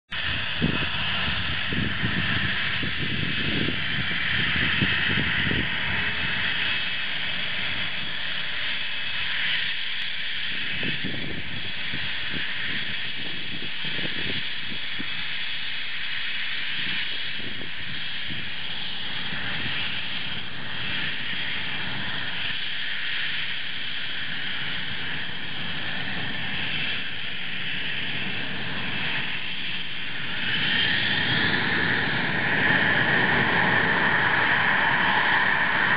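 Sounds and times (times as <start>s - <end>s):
jet engines whining: 0.1s - 35.9s.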